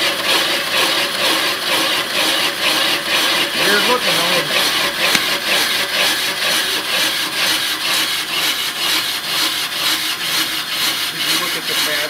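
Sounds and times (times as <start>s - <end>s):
brake lathe shaving a rotor: 0.0s - 12.0s.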